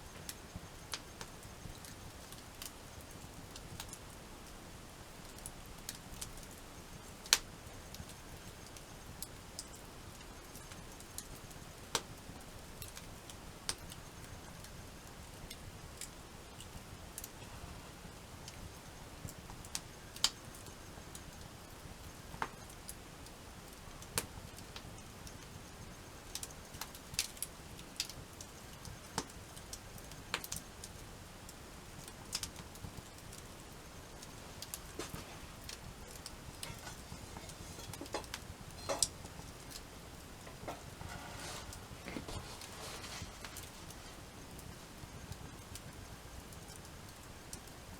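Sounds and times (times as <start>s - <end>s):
faint steady hiss: 0.0s - 47.9s
wood fire crackling: 0.0s - 47.9s.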